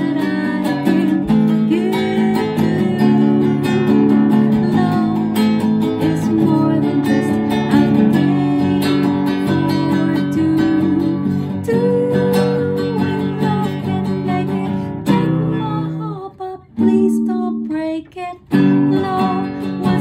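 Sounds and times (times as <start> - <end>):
classical guitar strummed: 0.0 - 20.0
woman singing: 0.0 - 20.0.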